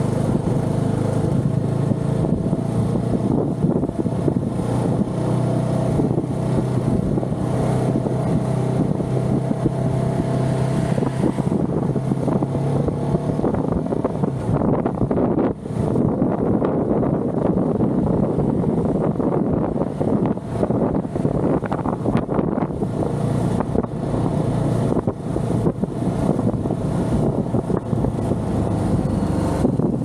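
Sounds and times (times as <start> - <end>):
motorcycle engine running: 0.0 - 30.0
wind noise on microphone: 0.0 - 30.0.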